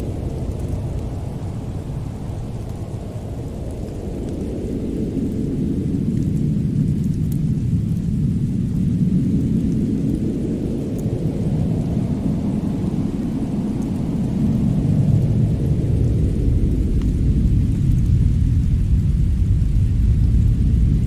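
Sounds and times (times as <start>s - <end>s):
faint fire crackles: 0.0s - 21.0s
fireplace low rumble: 0.0s - 21.0s.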